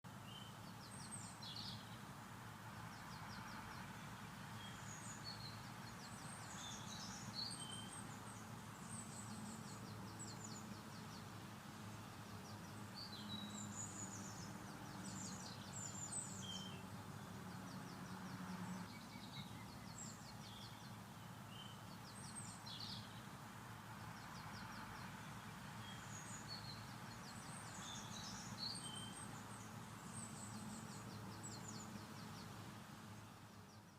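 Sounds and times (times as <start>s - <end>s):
birds chirping and trilling: 2.8s - 11.4s, 12.3s - 23.4s, 24.0s - 33.9s.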